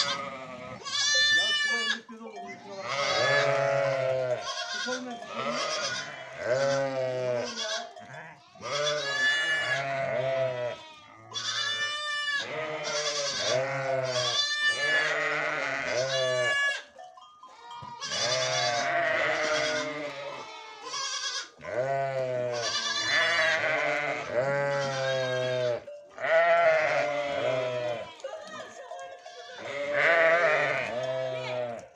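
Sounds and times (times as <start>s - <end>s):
sheep bleating: 0.0s - 16.9s, 17.5s - 31.9s.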